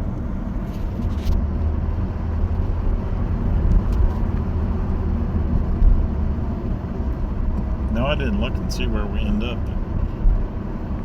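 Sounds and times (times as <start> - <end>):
engine and road noise in car: 0.0 - 11.0.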